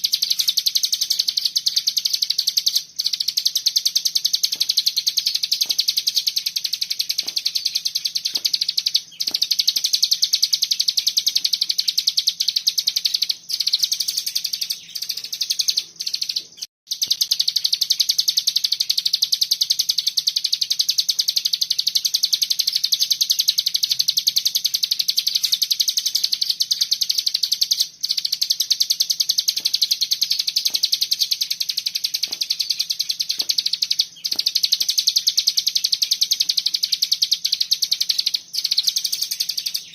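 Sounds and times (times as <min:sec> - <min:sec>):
songbird rapid trilling song: 0:00.0 - 0:39.9.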